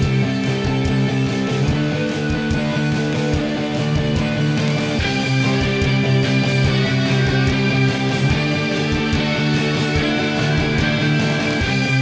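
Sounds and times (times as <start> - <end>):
rock guitar chords: 0.0 - 12.0
steady drum beat: 0.0 - 12.0.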